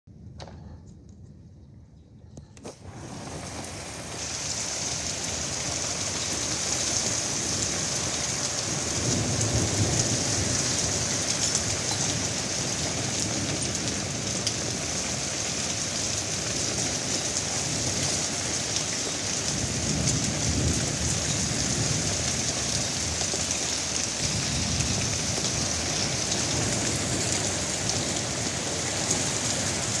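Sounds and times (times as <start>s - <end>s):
heavy rain pouring: 2.6s - 30.0s
low rumbles of thunder: 2.9s - 30.0s.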